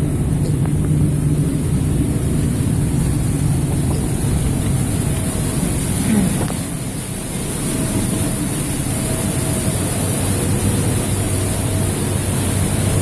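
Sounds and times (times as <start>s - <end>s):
extractor fan air rushing: 0.0s - 13.0s
low steady hum: 0.0s - 13.0s.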